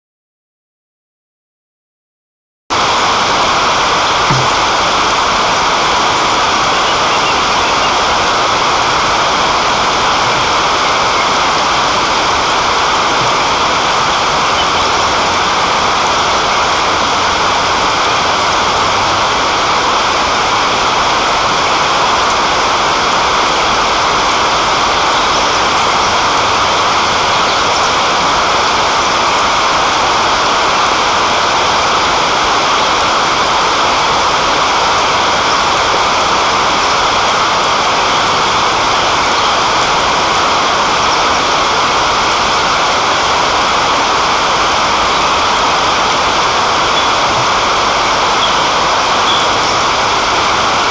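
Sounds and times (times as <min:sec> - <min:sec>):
rain falling: 0:02.8 - 0:50.9.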